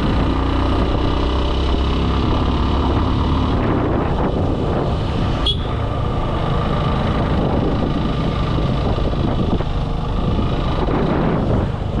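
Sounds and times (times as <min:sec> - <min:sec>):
motorcycle engine and road rumble: 0:00.0 - 0:12.0.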